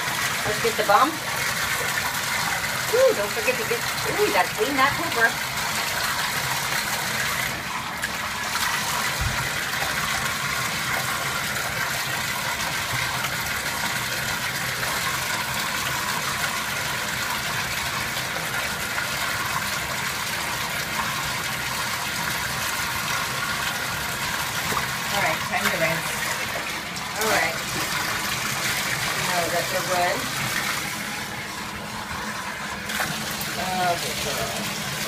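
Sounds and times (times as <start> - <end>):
bathtub faucet running: 0.0 - 35.0.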